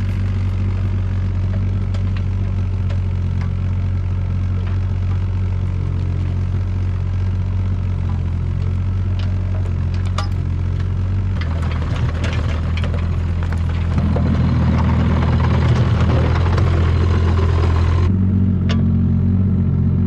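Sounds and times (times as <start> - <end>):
excavator engine running: 0.0 - 18.2.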